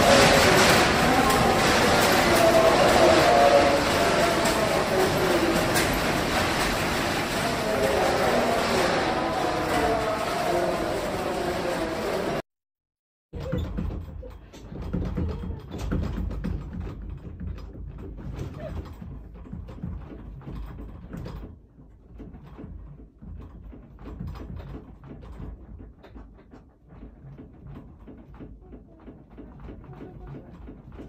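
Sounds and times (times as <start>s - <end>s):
room rattling and creaking: 0.0s - 12.4s, 13.3s - 31.0s.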